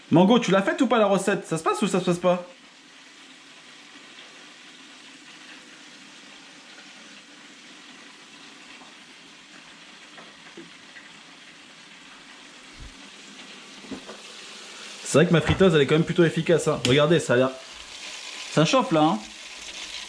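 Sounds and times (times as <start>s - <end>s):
oil sizzling in fryer: 0.0s - 20.0s.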